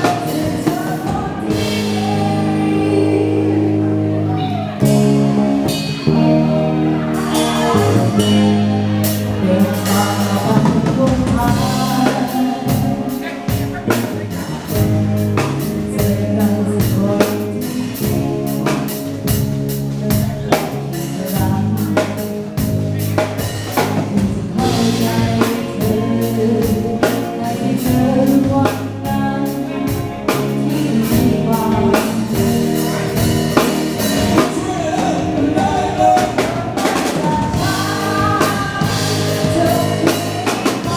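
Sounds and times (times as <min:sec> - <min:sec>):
drum kit beat: 0:00.0 - 0:03.4, 0:04.4 - 0:40.9
live band playing dance song: 0:00.0 - 0:40.9
person singing: 0:00.0 - 0:40.9.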